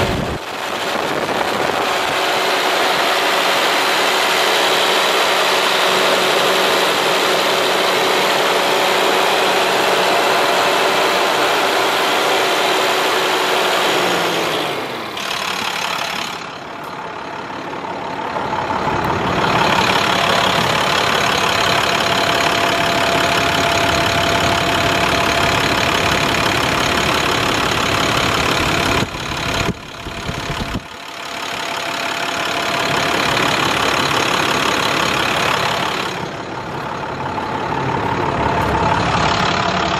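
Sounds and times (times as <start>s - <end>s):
diesel engine idling: 0.0s - 39.9s
steady whine: 0.0s - 39.9s.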